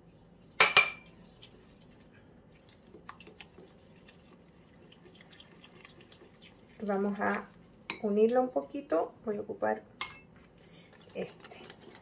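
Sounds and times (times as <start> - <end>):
spoon stirring wet squishing: 0.0 - 8.9, 10.0 - 12.0.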